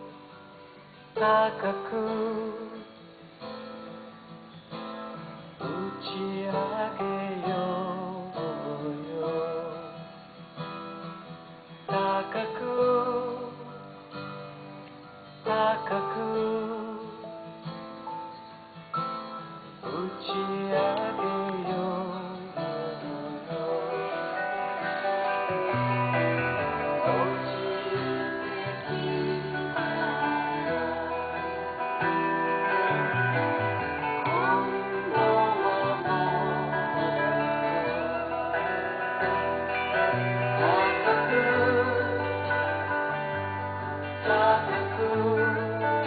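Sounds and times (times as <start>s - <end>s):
person singing with vibrato: 0.0s - 3.2s, 5.6s - 10.3s, 11.9s - 14.0s, 15.3s - 17.3s, 19.7s - 46.0s
acoustic guitar: 0.0s - 46.0s.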